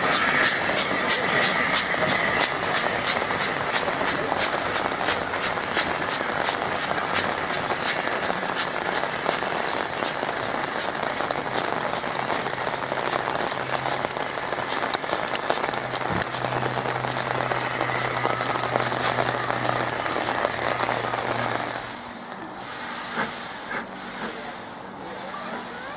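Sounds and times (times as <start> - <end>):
pouring rain: 0.0 - 25.9.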